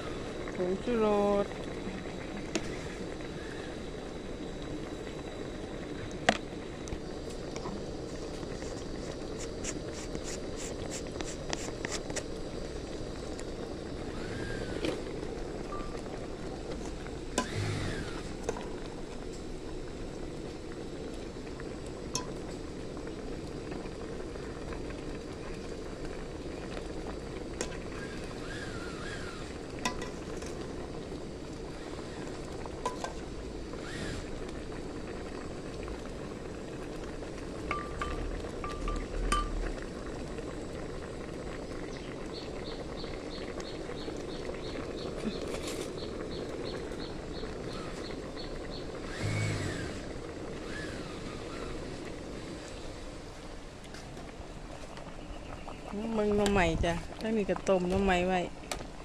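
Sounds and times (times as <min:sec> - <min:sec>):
broth bubbling: 0:00.0 - 0:59.0.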